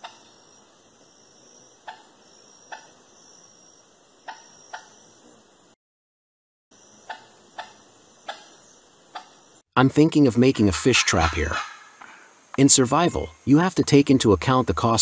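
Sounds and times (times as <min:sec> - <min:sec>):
chorus of jungle insects: 0:00.0 - 0:05.8, 0:06.7 - 0:15.0.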